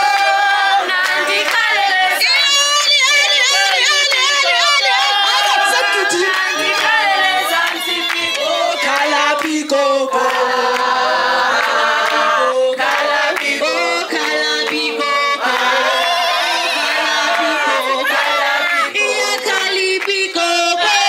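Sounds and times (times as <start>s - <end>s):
group of people singing: 0.0s - 21.0s.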